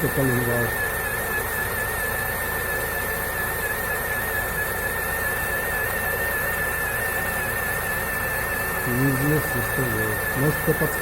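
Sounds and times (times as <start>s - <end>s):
high-pitched engine whine: 0.0s - 11.0s.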